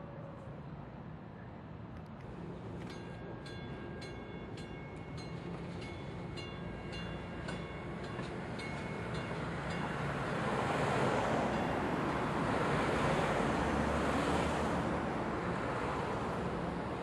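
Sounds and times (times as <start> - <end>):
train rail rumble: 2.2 - 17.0.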